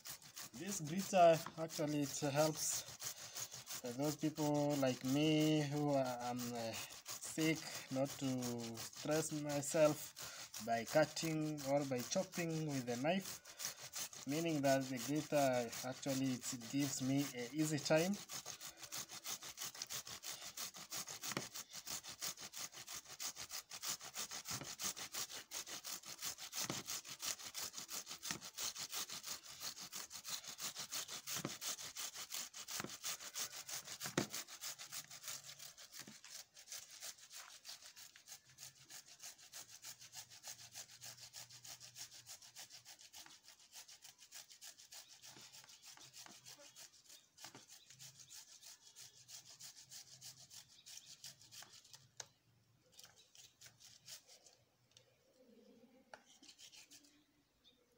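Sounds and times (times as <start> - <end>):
tomatoes rubbed on a grater: 0.0 - 52.2, 53.0 - 54.6, 56.3 - 57.2.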